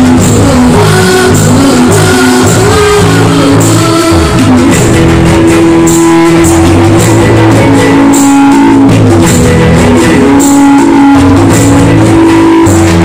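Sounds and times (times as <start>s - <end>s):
dance music over loudspeakers: 0.0s - 13.0s.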